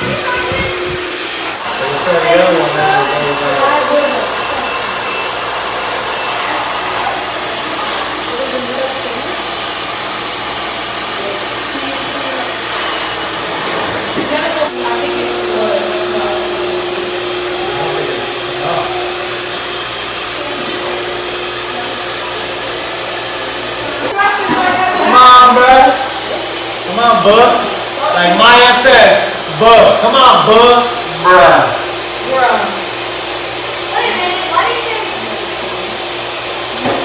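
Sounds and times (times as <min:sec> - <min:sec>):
hair dryer blowing: 0:00.0 - 0:37.0.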